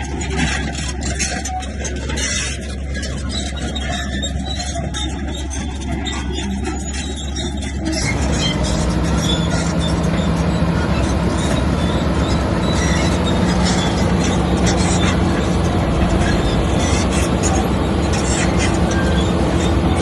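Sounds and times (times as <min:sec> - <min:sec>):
diesel engine running under load: 0:00.0 - 0:20.0
steel tracks clanking: 0:00.0 - 0:20.0.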